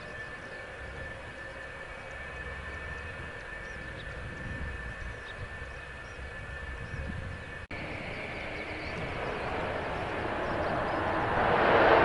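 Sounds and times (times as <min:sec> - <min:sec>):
jet engines whining at low power: 0:00.0 - 0:12.0.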